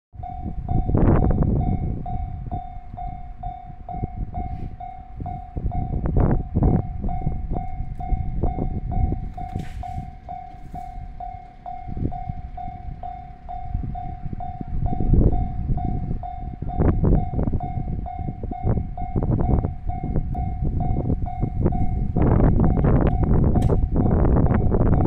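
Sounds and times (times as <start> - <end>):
level crossing alarm dinging: 0.2 - 25.0
low rumble: 0.2 - 25.0.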